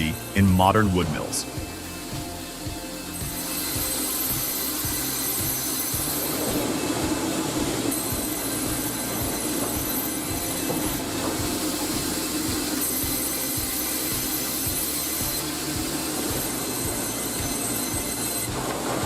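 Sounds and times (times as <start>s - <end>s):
high whine: 0.0s - 19.0s
sawmill machine noise and rattle: 0.0s - 19.0s.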